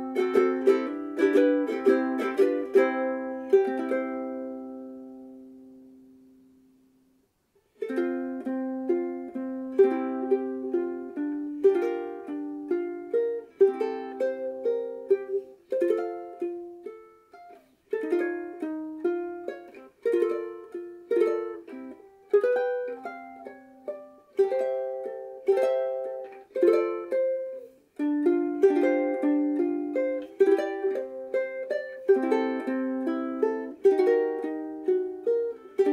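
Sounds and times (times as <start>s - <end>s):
ukulele chords and notes: 0.0s - 35.9s.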